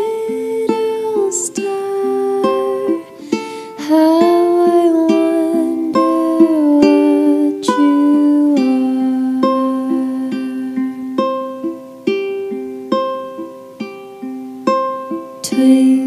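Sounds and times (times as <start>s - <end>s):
plucked string instrument tune: 0.0s - 16.0s.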